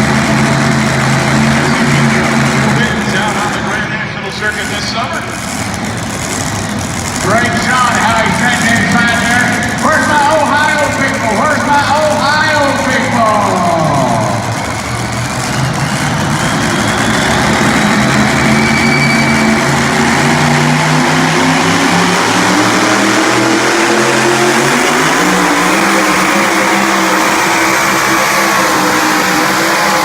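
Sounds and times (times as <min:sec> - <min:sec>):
tractor engine at high revs: 0:00.0 - 0:30.0.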